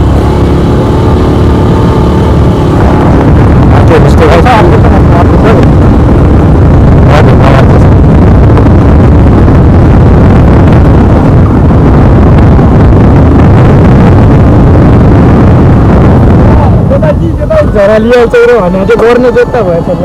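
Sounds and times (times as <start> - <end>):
motorcycle engine rumbling: 0.0 - 20.0
wind buffeting microphone: 0.0 - 20.0.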